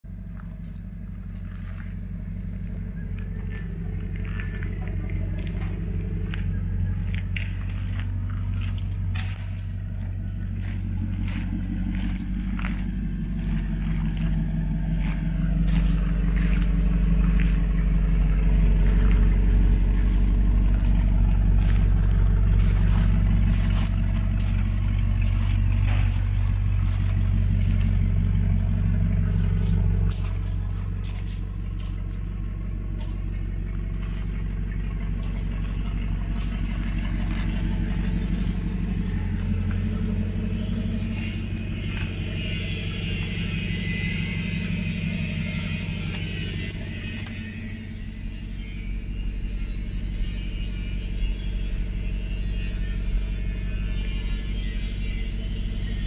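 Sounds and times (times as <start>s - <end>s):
car engine idling: 0.0s - 56.0s
footsteps on gravel: 0.1s - 56.0s.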